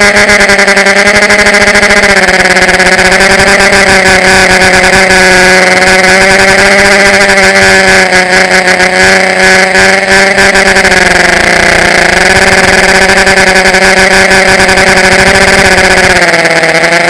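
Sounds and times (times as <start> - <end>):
model aircraft motors buzzing: 0.0 - 17.0.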